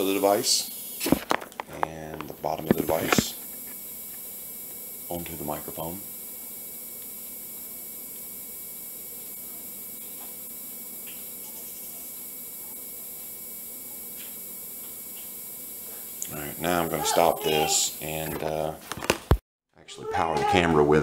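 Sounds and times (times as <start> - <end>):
faint hiss: 0.0 - 1.2, 1.8 - 18.8
power adapter hum and whine: 0.0 - 18.8.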